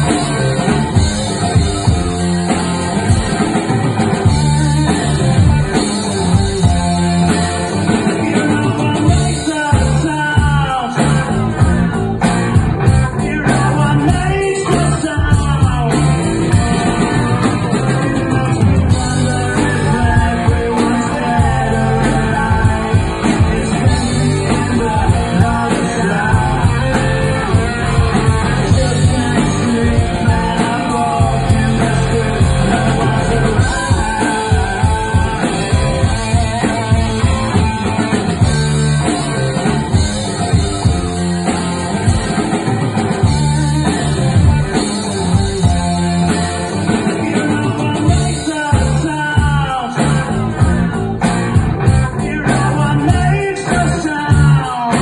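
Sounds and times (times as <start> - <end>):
bass guitar: 0.0 - 55.0
drum kit driving beat: 0.0 - 55.0
electric guitar: 0.0 - 55.0.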